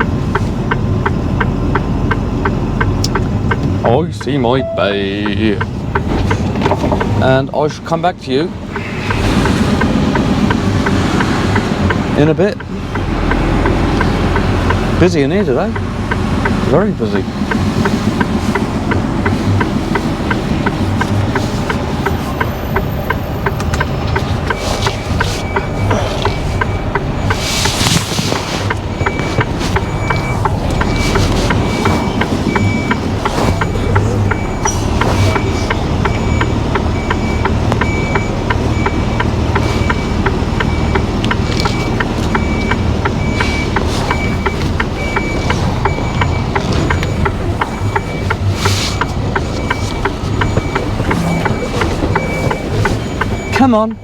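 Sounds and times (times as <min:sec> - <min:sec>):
rapid regular ticking: 0:00.0 - 0:04.5, 0:05.1 - 0:54.0
reversing alarm beeping: 0:00.0 - 0:06.6, 0:12.9 - 0:54.0
diesel engine running: 0:00.0 - 0:54.0.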